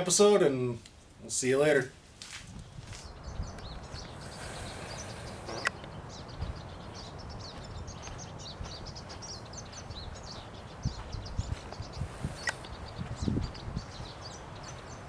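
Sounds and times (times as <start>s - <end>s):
wind rumbling on microphone: 2.0s - 15.0s
small birds chirping: 2.5s - 15.0s.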